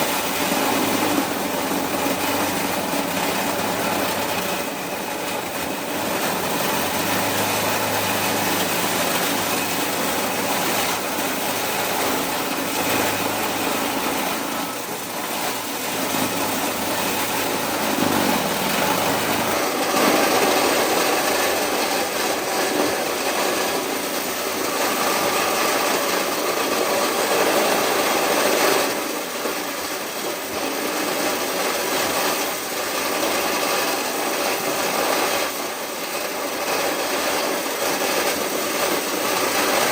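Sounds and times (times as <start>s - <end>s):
corn-shelling machine rasping: 0.0s - 39.9s.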